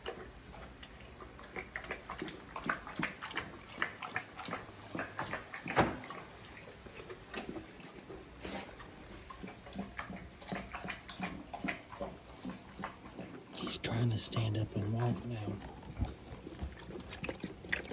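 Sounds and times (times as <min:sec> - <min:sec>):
wet licking and smacking: 0:00.0 - 0:17.9.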